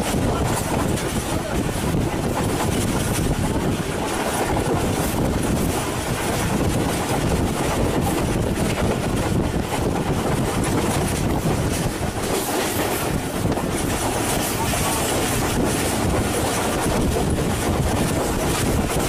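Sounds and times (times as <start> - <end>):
train wheels rumbling on track: 0.0 - 19.0
wind buffeting microphone: 0.0 - 19.0.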